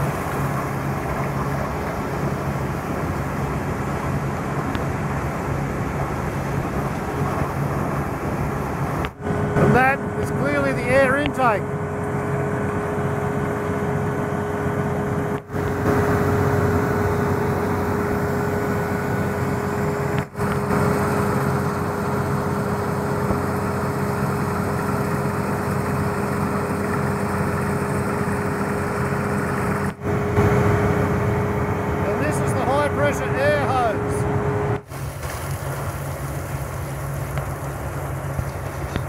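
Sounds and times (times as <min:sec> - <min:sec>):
large engine running steadily: 0:00.0 - 0:39.0
steady whining tone: 0:00.0 - 0:39.0.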